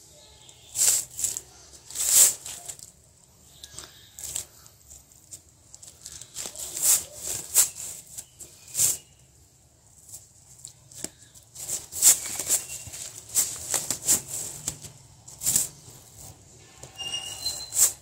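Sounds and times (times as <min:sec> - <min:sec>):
nylon fabric rustling on rind: 0:00.6 - 0:18.0.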